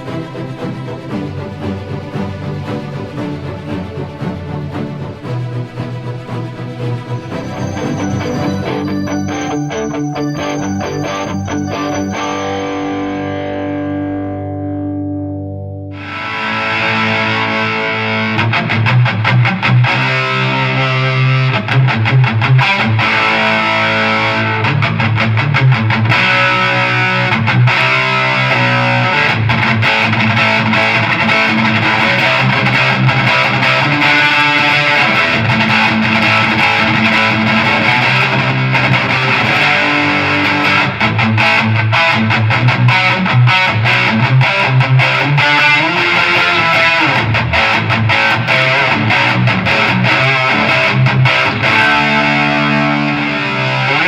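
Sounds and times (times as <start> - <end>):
distorted electric guitar riffs: 7.2 - 54.0.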